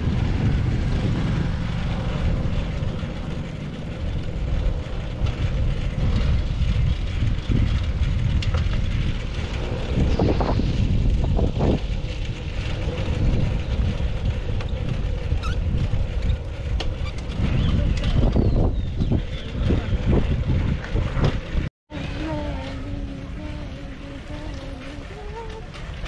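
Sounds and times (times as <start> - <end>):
bicycle rolling: 0.0 - 26.0
wind buffeting microphone: 0.0 - 26.0.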